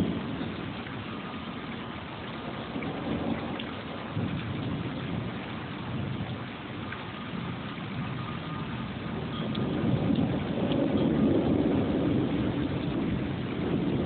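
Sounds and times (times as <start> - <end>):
low rolling thunder: 0.0 - 14.0
rain falling: 0.0 - 14.0.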